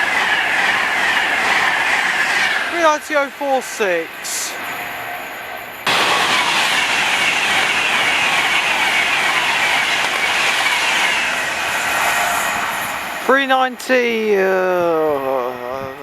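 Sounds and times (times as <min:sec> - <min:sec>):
electric train passing at speed: 0:00.0 - 0:16.0.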